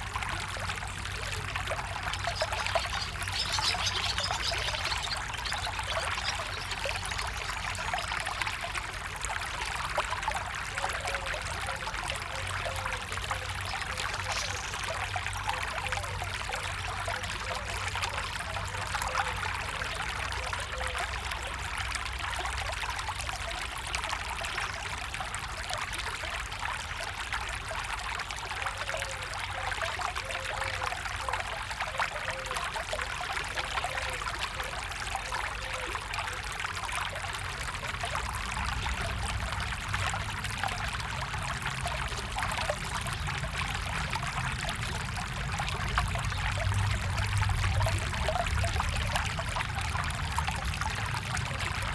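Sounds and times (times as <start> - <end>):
stream water flowing: 0.0 - 51.9.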